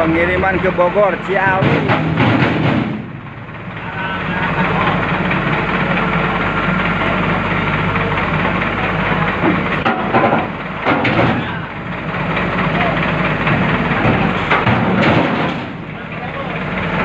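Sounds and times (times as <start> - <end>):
heavy engine running steadily: 0.0 - 17.0.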